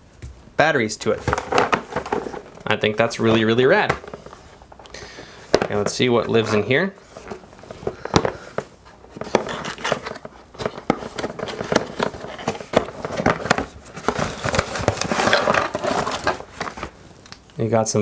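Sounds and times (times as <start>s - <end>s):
cables rubbing and rustling: 1.0s - 4.9s, 5.6s - 17.0s.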